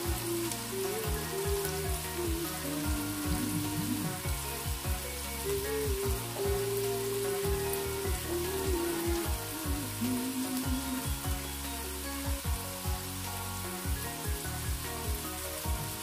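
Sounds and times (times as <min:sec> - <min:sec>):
music with deep bass beat: 0:00.0 - 0:16.0
vegetables sizzling in oil: 0:00.0 - 0:16.0.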